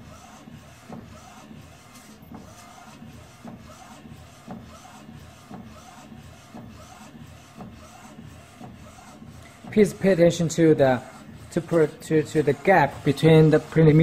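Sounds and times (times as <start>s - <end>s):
printer knock: 0.7s - 1.7s, 2.3s - 14.0s.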